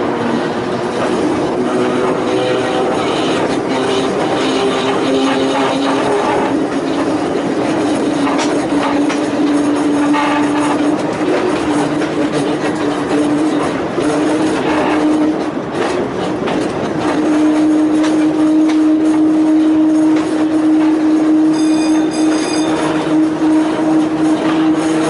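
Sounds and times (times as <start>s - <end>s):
electric railway car hum: 0.0s - 25.0s
wheels clicking on rails: 0.0s - 25.0s.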